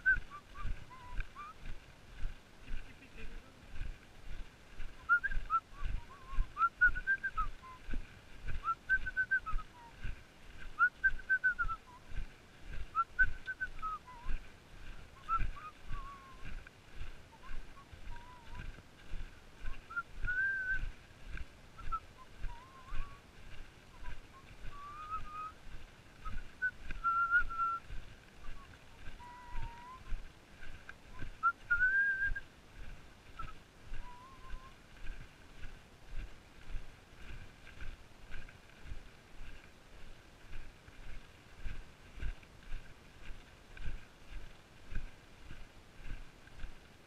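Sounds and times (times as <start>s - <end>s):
footsteps on grass: 0.0s - 47.0s.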